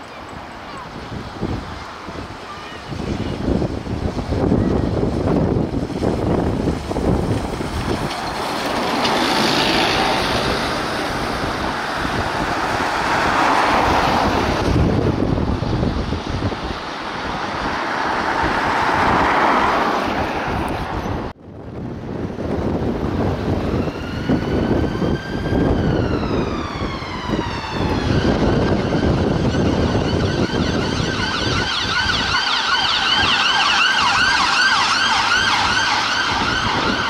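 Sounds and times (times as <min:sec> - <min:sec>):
road traffic passing: 0:00.0 - 0:37.0
wind buffeting microphone: 0:00.0 - 0:37.0.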